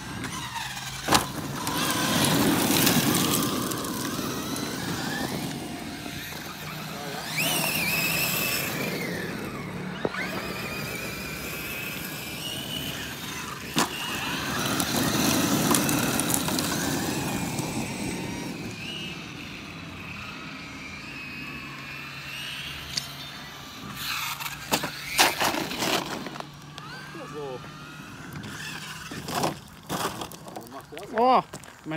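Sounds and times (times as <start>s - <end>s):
tyres crunching on gravel: 0.0s - 19.5s, 21.6s - 31.9s
electric motor whining: 0.0s - 31.2s.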